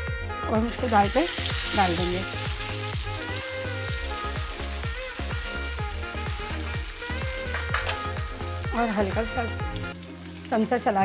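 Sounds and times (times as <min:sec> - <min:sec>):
background music: 0:00.0 - 0:11.0
hot oil sizzling: 0:00.0 - 0:11.0.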